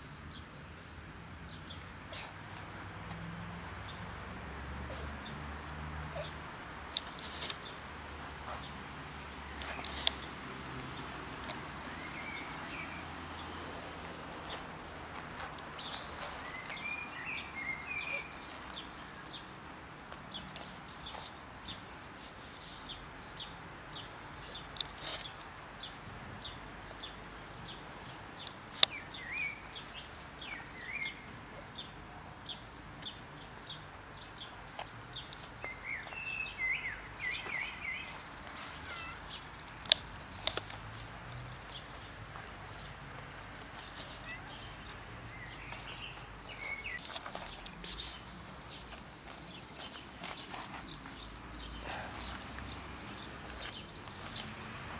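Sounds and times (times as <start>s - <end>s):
outdoor background hiss: 0.0s - 54.9s
small birds chirping: 0.0s - 54.9s.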